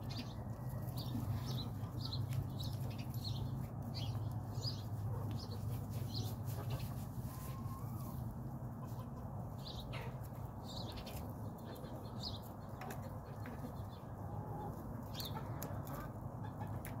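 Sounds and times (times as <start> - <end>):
chickens chirping: 0.0 - 17.0.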